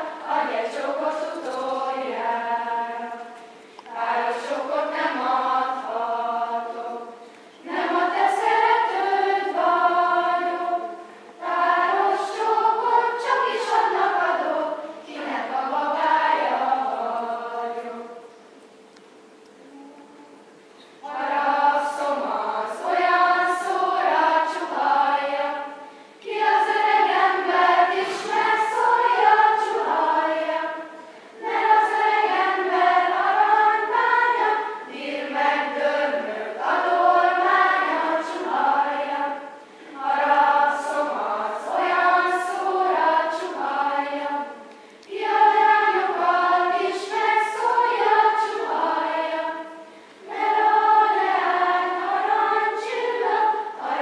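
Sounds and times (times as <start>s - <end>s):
children's choir singing: 0.0s - 18.3s, 19.6s - 54.0s.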